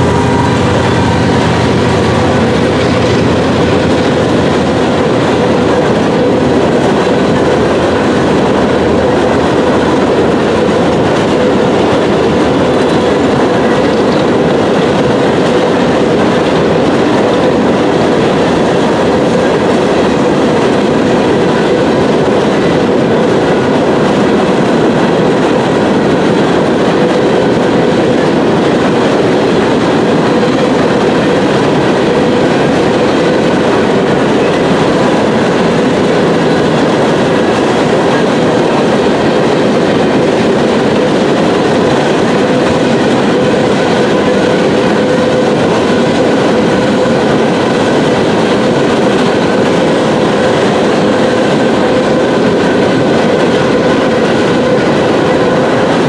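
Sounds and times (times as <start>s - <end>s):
freight train wheels rattling: 0.0s - 56.0s.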